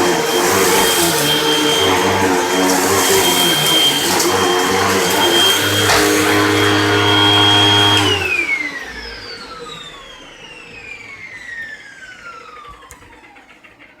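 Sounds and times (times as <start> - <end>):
vacuum motor winding down: 0.0 - 13.8.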